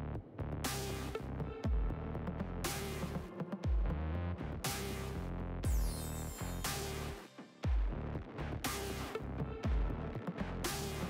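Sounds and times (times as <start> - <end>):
electronic music with steady beat: 0.7 - 11.0.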